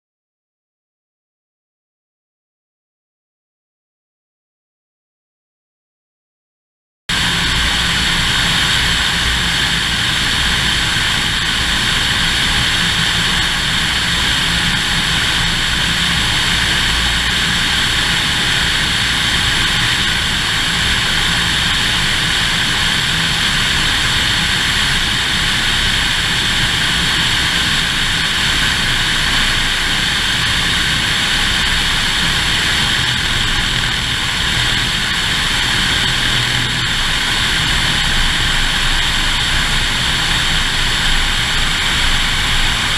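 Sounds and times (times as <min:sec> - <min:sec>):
propeller plane engine in flight: 0:07.1 - 0:42.9
wind rushing over camera: 0:07.1 - 0:42.9.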